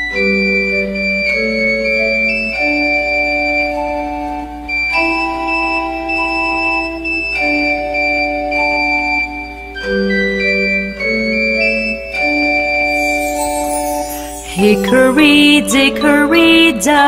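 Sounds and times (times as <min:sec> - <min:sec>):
electronic keyboard melody: 0:00.0 - 0:17.0.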